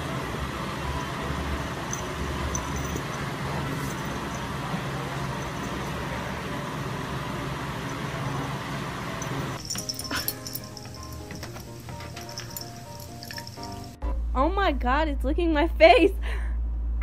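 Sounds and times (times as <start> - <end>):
electric fan whooshing: 0.0 - 14.0.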